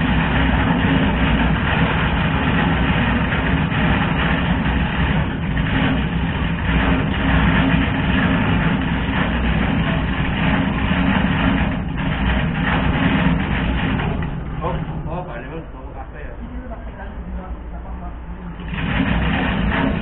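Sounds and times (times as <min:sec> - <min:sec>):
heavy engine idling: 0:00.0 - 0:20.0.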